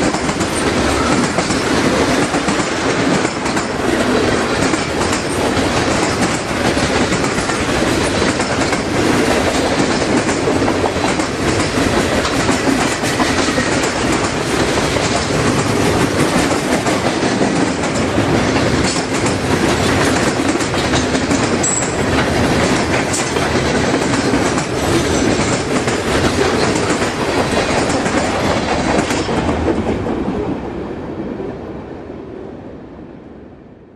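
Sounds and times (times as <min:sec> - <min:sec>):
train wheels clacking on rails: 0:00.0 - 0:30.5.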